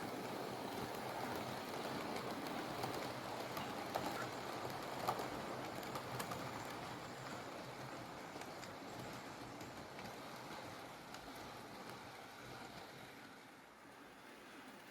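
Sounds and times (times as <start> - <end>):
model train running on track: 0.0 - 14.9.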